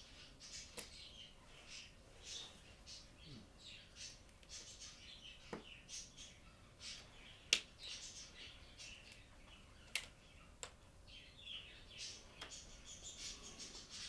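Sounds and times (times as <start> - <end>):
faint high chirping: 0.0 - 14.0.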